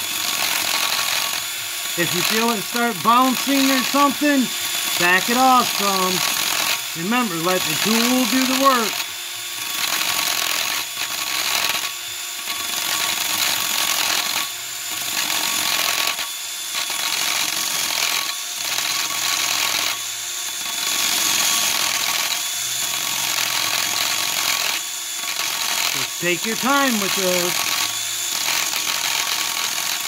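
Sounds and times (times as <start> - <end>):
hand drill cutting into metal: 0.0 - 30.0.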